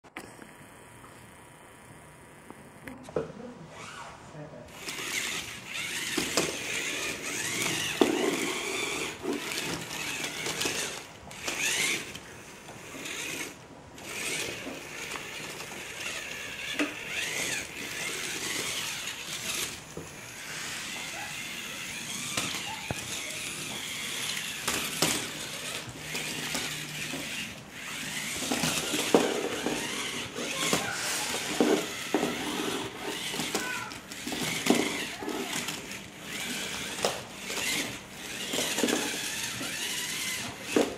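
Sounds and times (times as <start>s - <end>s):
small gear motors whining: 3.7s - 40.9s
plastic tracks clattering: 4.7s - 40.9s.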